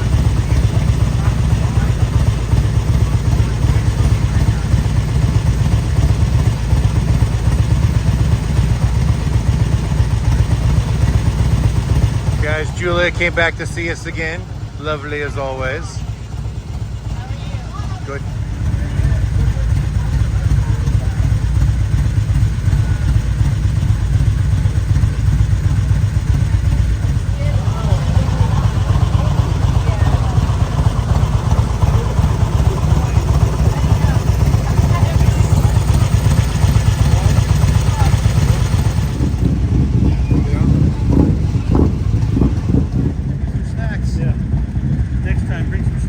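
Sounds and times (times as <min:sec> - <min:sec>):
motorcycle engine rumbling: 0:00.0 - 0:46.0.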